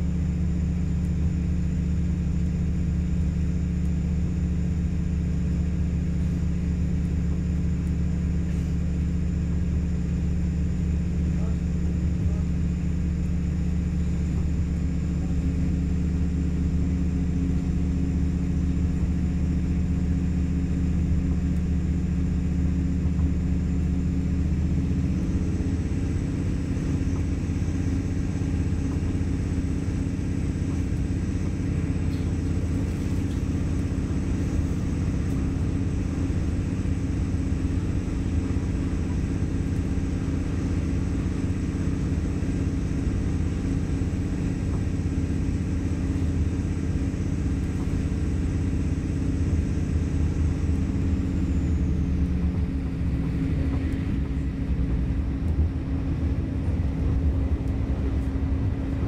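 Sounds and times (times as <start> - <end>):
diesel engine drone: 0.0 - 59.0
train rumbling on track: 0.0 - 59.0.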